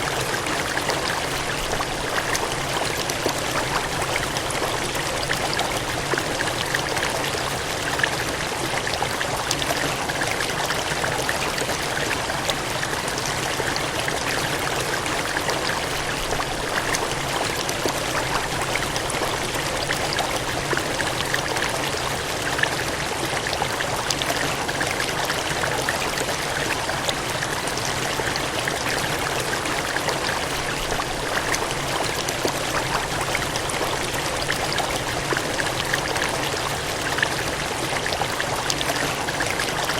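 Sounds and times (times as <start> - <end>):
water gushing and splashing: 0.0 - 39.9.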